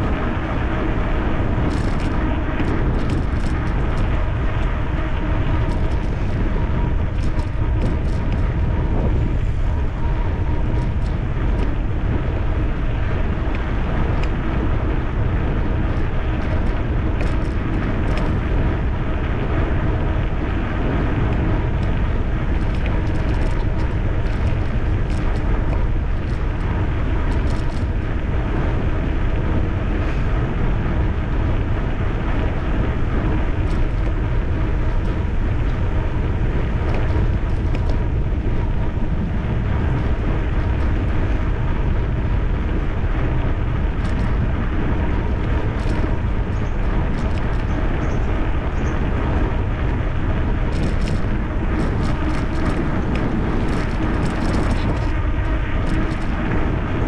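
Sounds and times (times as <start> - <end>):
bicycle running noise: 0.0 - 57.0
wind rumble on microphone: 0.0 - 57.0.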